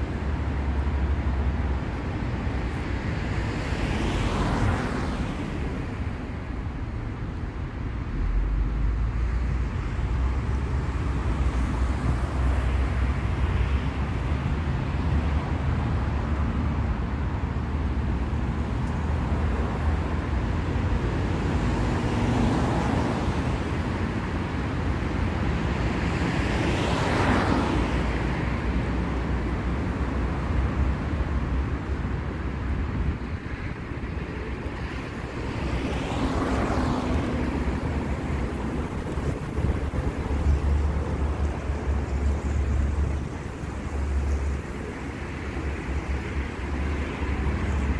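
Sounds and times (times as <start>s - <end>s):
cars passing close: 0.0s - 47.9s
low rumble of traffic: 0.0s - 47.9s.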